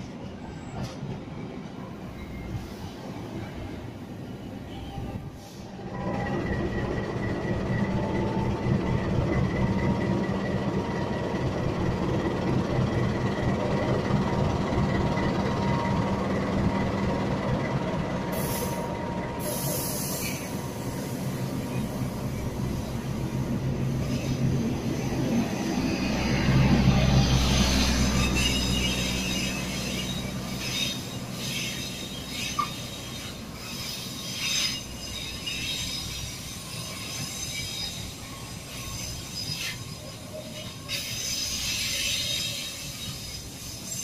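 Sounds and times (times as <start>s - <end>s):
diesel locomotive engine drone: 0.0s - 44.0s
train low rumble: 0.0s - 44.0s.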